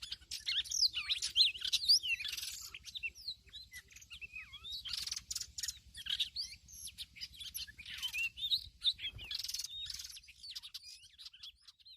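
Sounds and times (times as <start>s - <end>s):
songbird singing: 0.0s - 11.9s.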